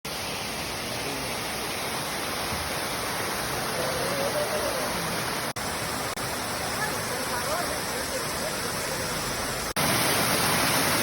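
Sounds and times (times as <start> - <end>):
waterfall rushing: 0.1 - 11.0.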